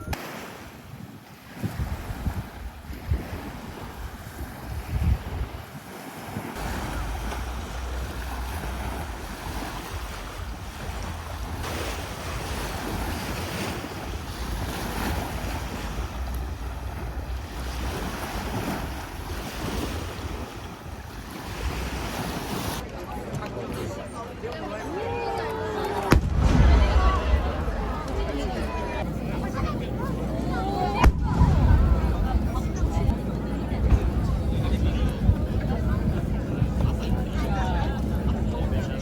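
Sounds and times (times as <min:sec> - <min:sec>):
wind buffeting microphone: 0:00.0 - 0:22.8, 0:25.0 - 0:39.0
sea waves washing ashore: 0:00.0 - 0:39.0.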